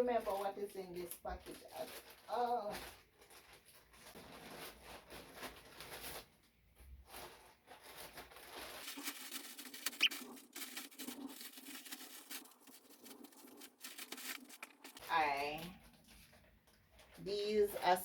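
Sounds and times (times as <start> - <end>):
packaging rustling and crackling: 0.0 - 18.0.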